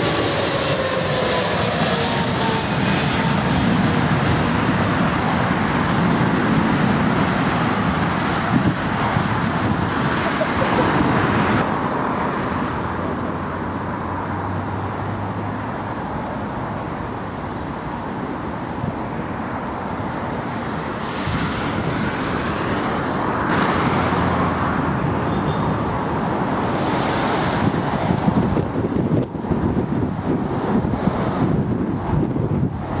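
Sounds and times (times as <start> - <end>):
jet engine noise: 0.0 - 33.0
wind buffeting microphone: 0.0 - 33.0.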